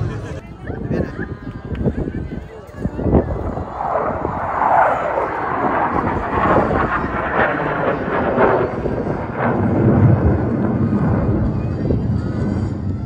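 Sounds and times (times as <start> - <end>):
jet engines rushing overhead: 0.0 - 13.0.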